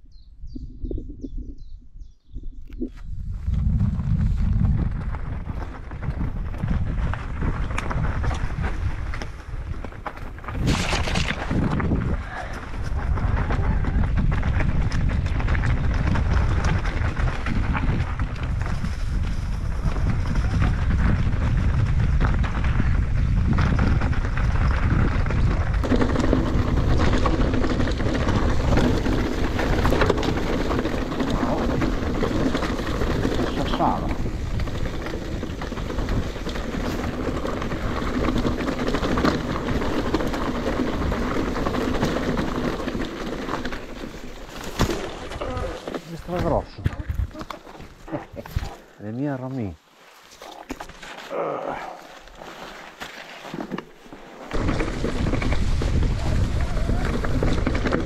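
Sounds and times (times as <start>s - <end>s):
wind buffeting microphone: 0.0s - 44.5s, 45.2s - 49.0s, 54.5s - 58.0s
bike clicks and rattles: 3.7s - 48.9s, 52.1s - 58.0s
tyres crunching on gravel: 4.6s - 58.0s.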